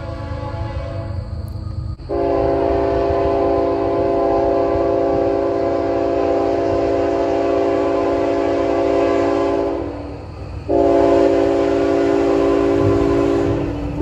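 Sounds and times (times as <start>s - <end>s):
train horn chord: 0.0s - 1.2s, 2.1s - 10.1s, 10.7s - 14.0s.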